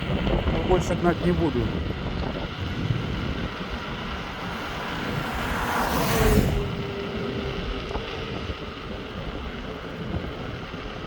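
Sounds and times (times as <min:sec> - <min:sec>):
wind and road noise: 0:00.0 - 0:11.0
vehicle passing by: 0:01.0 - 0:10.8.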